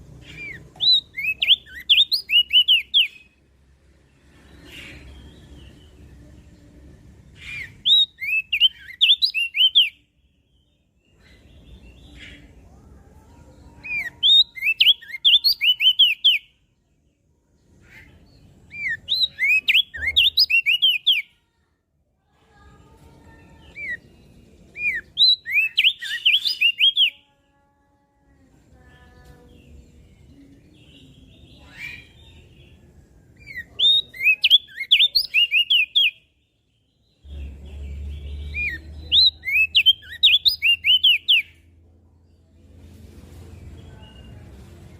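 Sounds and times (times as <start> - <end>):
songbird chirping: 0.0 - 44.9.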